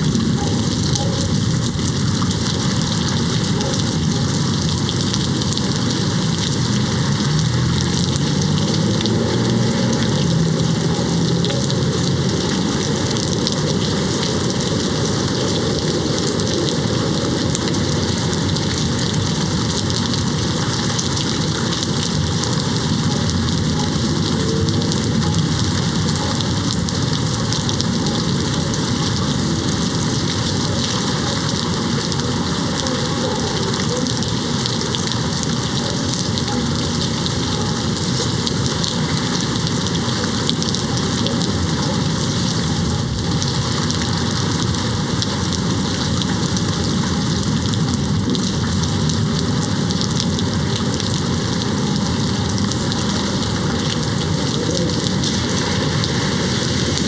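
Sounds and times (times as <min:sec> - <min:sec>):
rain hitting a window: 0:00.0 - 0:57.0.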